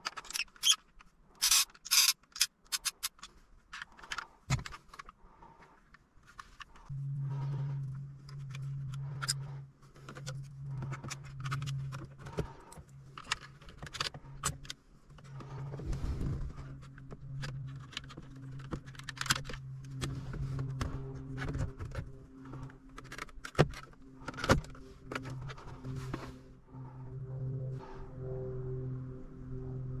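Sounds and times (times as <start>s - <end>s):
steady low hum: 3.0s - 30.0s.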